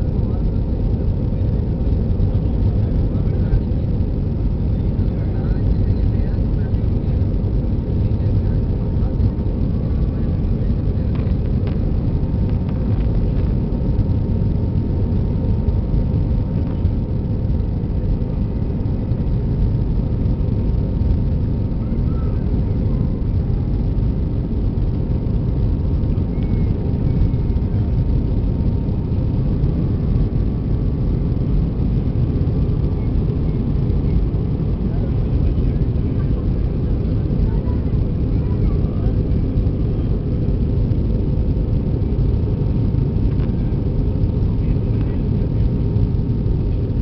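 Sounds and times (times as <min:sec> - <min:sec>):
airliner cabin engine rumble: 0:00.0 - 0:47.0
faint thin whine: 0:00.0 - 0:47.0.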